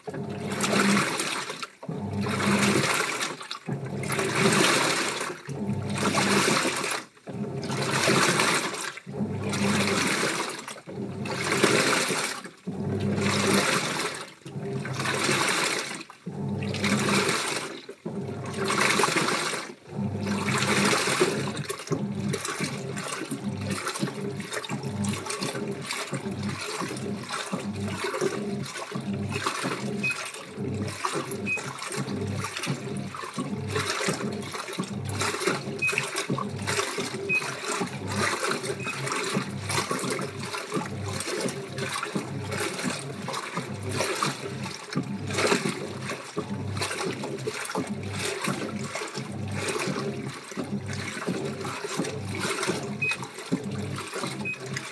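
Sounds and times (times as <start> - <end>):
washing machine water sloshing: 0.0 - 54.9.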